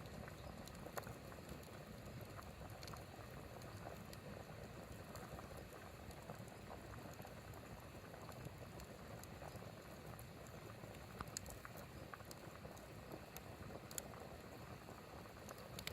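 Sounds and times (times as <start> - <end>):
fire popping: 0.0 - 15.9
water boiling in a pot: 0.0 - 15.9.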